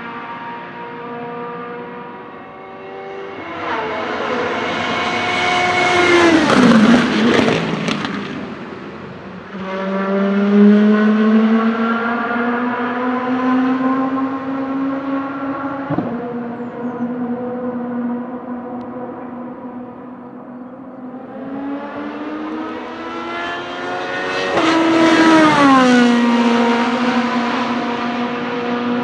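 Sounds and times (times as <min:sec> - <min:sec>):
race car engine accelerating hard: 0:00.0 - 0:29.0
race car passing at speed: 0:00.0 - 0:29.0.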